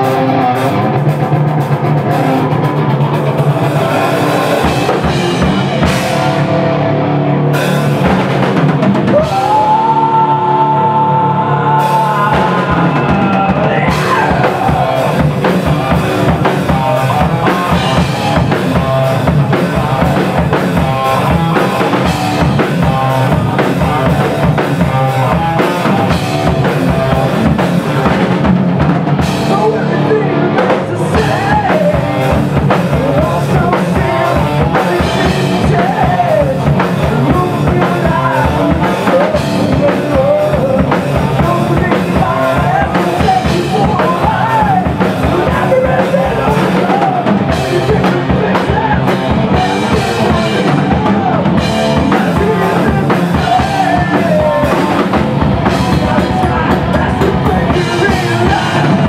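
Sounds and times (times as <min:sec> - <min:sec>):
drum kit beat: 0:00.0 - 0:11.0, 0:11.7 - 0:59.0
bass guitar: 0:00.0 - 0:59.0
electric guitar: 0:00.0 - 0:59.0.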